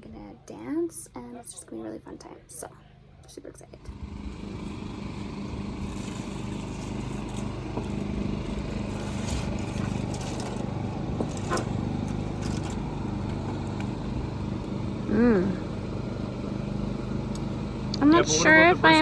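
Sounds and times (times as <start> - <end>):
engine hum: 3.6 - 19.0.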